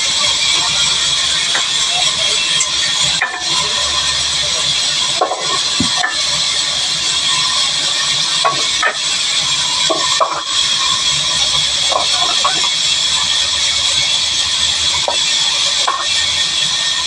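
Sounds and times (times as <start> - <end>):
band saw hissing and whining: 0.0 - 17.0.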